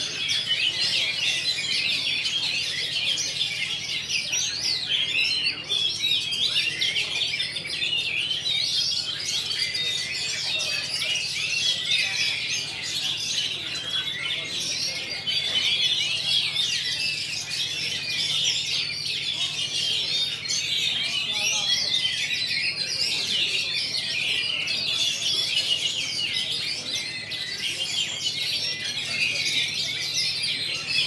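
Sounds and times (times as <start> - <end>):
many songbirds singing: 0.0 - 31.0.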